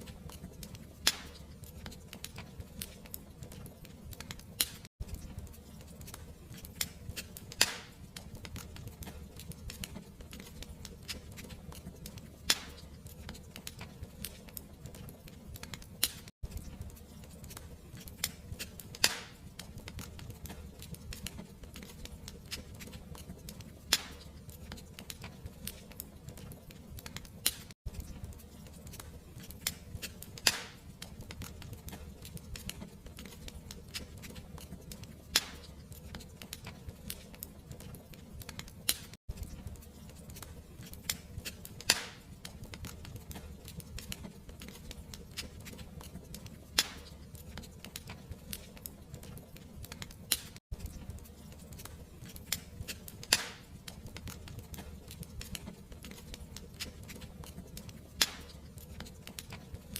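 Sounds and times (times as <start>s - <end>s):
fire popping: 0.0s - 59.9s
fireplace fire crackling: 0.0s - 59.9s.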